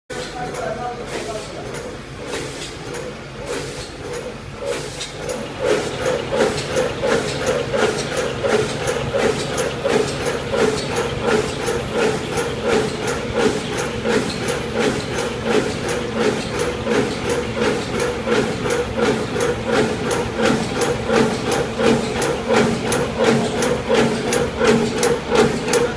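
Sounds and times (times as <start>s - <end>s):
machine clacking rhythmically: 0.1s - 25.9s
steady mechanical drone: 0.1s - 25.9s.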